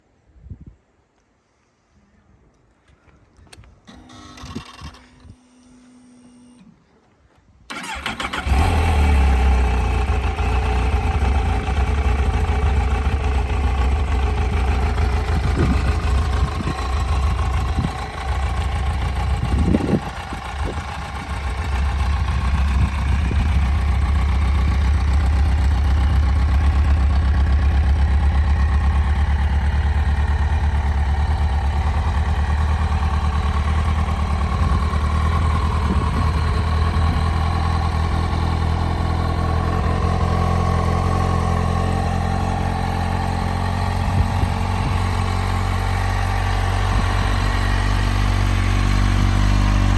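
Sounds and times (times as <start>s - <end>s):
motorcycle engine idling: 7.7s - 49.9s.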